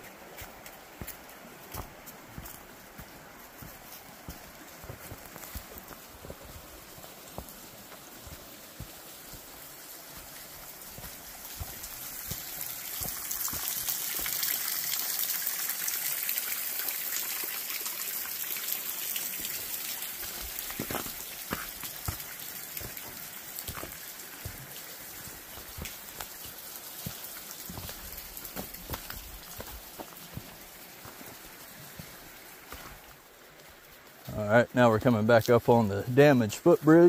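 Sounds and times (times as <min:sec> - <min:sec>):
footsteps on trail: 0:00.0 - 0:14.6, 0:19.3 - 0:37.0
creek water rushing: 0:00.0 - 0:37.0.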